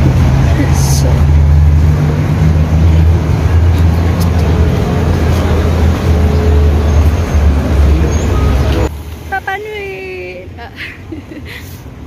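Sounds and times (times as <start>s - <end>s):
street noise rumble: 0.0s - 12.0s.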